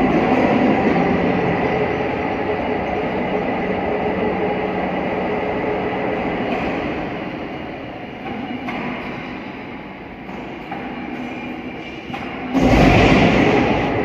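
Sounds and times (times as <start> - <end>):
rumbling mechanical noise: 0.0 - 14.0.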